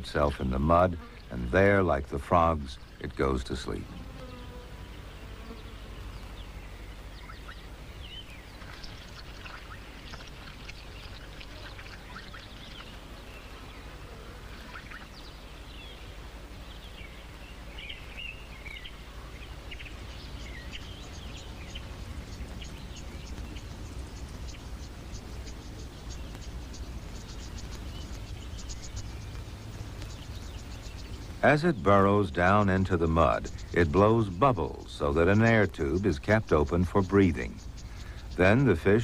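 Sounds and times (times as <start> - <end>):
bird chirps and calls: 0.0 - 39.0
steady low hum: 0.0 - 39.0.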